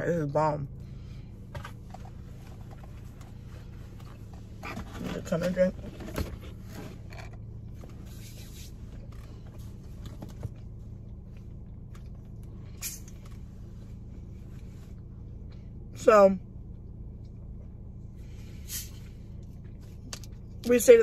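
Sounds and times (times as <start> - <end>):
car cabin hum: 0.0 - 21.0.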